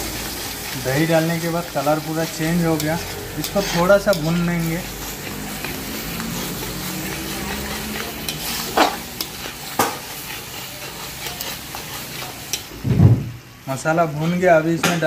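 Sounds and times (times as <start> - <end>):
metal spatula scraping a pan: 0.0 - 12.8
sauce sizzling: 0.0 - 15.0.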